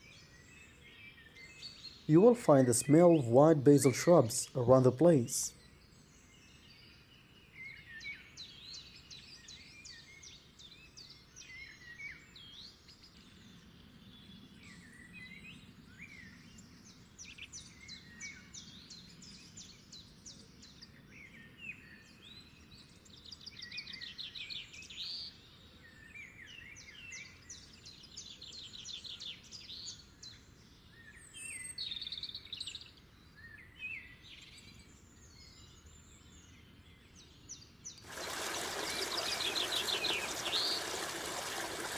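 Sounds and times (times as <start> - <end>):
small birds singing: 0.0 - 41.9.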